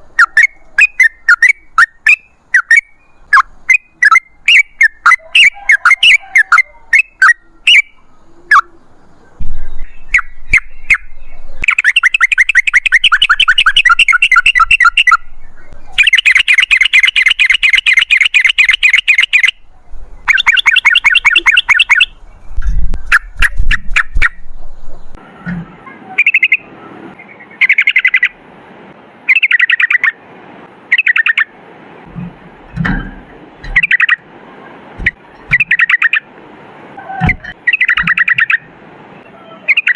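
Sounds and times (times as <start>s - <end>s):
bird song with rolling trills: 0.0s - 25.2s, 25.8s - 28.4s, 29.2s - 30.2s, 30.9s - 31.6s, 32.7s - 34.2s, 35.0s - 36.3s, 37.0s - 39.9s.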